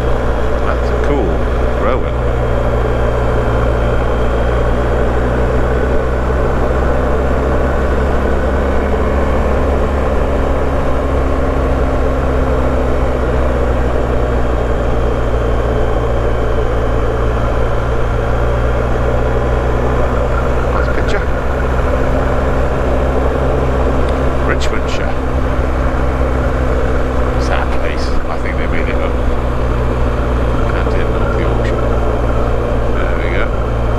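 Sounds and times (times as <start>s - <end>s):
motorcycle engine cruising: 0.0s - 33.9s
wind and road noise: 0.0s - 33.9s.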